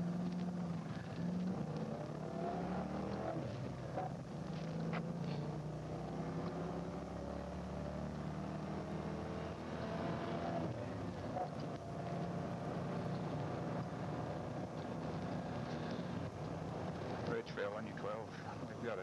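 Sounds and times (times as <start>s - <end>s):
car engine running hard: 0.0s - 19.0s
tyre and road noise: 0.0s - 19.0s.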